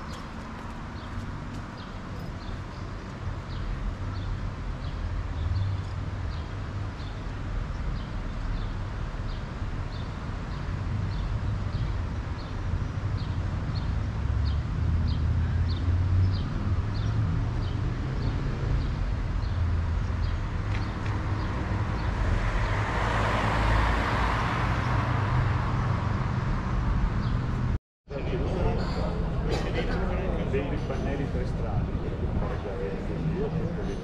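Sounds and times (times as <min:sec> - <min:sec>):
vehicle rumbling: 0:00.0 - 0:34.0.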